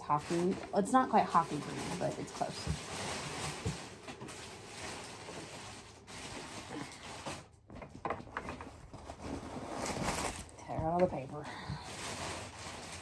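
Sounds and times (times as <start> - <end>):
paper and fabric rustling: 0.0 - 13.0.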